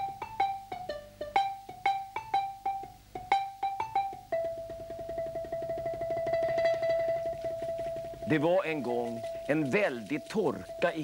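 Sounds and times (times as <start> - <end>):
xylophone melody: 0.0 - 11.0.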